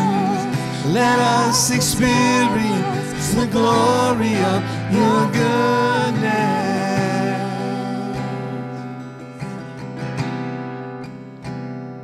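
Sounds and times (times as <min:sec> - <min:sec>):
acoustic guitar strums: 0:00.0 - 0:12.0.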